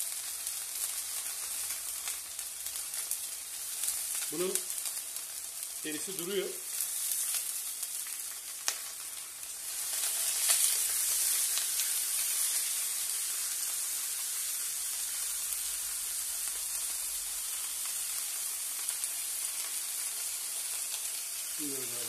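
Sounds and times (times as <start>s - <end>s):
fish sizzling in a grill pan: 0.0s - 22.0s.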